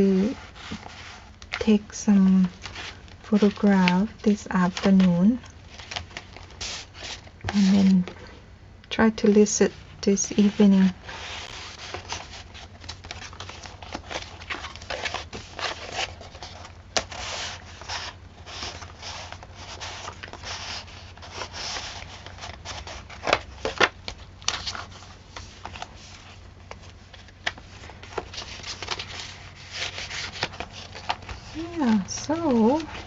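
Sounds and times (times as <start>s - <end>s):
paper pages rustling: 0.2s - 8.3s, 10.3s - 33.0s.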